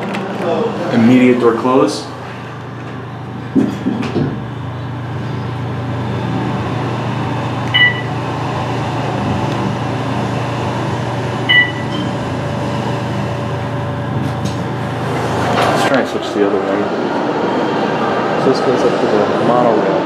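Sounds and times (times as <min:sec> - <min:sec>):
elevator hum and rumble: 0:00.0 - 0:20.0.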